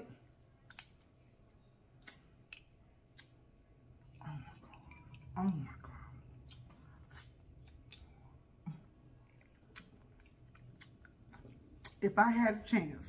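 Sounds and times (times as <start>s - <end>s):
faint chewing: 0.6s - 12.0s.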